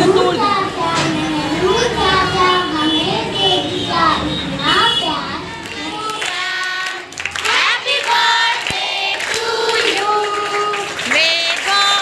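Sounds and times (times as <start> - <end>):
children singing into microphone: 0.2 - 11.0.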